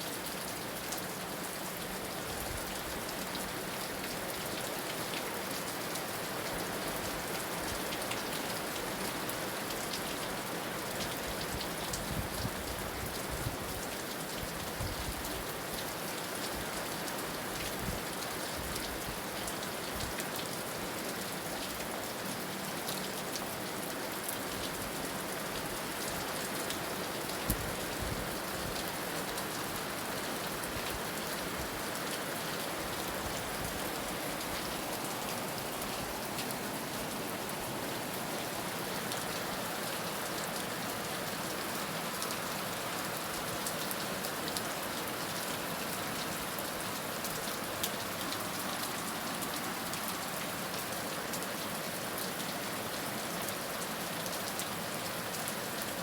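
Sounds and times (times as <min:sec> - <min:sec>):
heavy rain falling: 0:00.1 - 0:56.0.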